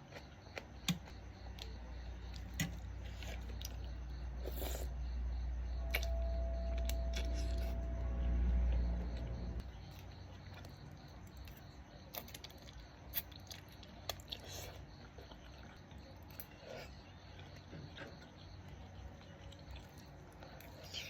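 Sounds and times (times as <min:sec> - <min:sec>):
person chewing noodles: 0:00.0 - 0:05.0, 0:06.8 - 0:07.8, 0:09.8 - 0:21.0.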